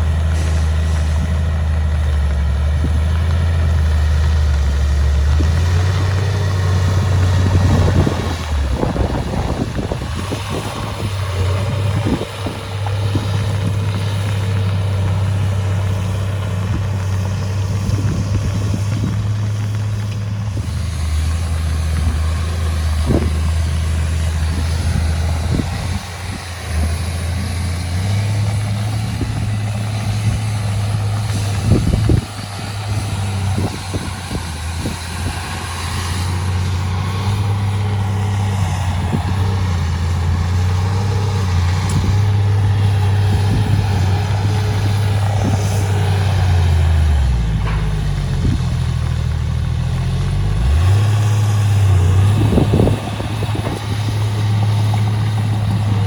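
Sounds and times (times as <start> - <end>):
heavy diesel engine working: 0.0 - 56.0.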